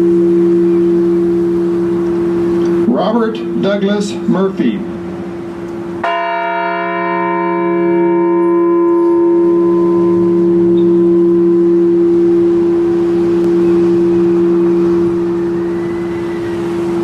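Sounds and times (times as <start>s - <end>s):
large bell tolling: 0.0s - 17.0s.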